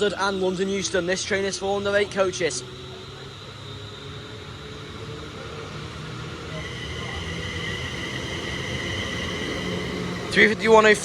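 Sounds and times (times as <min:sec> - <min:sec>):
electric train rumble: 0:00.0 - 0:11.0
traction motor whine: 0:00.0 - 0:11.0.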